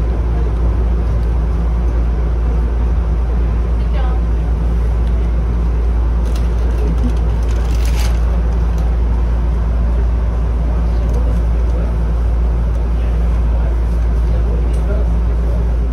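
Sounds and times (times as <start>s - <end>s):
train interior hum and rumble: 0.0s - 15.9s.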